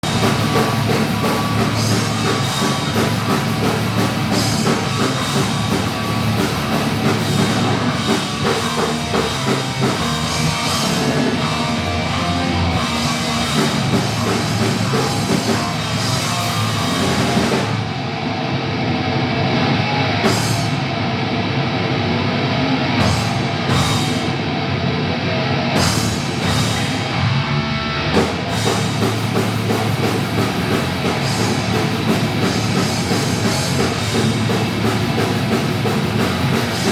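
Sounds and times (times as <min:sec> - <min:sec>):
thrash metal band playing: 0:00.0 - 0:36.9.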